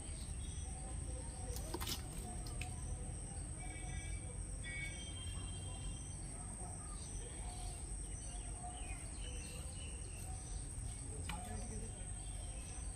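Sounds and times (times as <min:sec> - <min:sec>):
faint bird chirps: 0:00.0 - 0:12.9.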